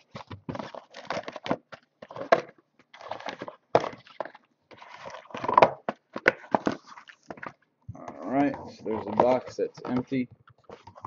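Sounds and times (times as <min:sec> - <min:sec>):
cardboard scraping and rustling: 0:00.0 - 0:11.0.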